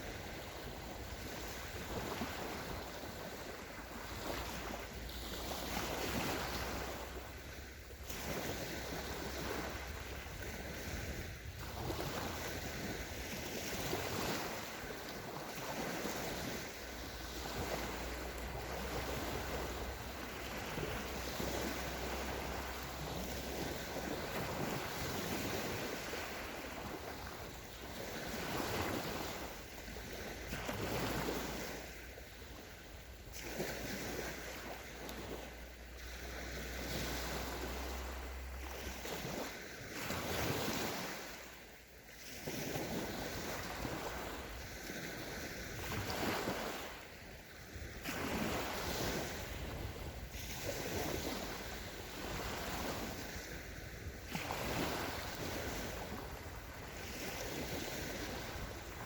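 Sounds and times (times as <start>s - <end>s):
waves washing onto sandy shore: 0.0s - 59.0s
wind rumble on microphone: 0.0s - 59.0s.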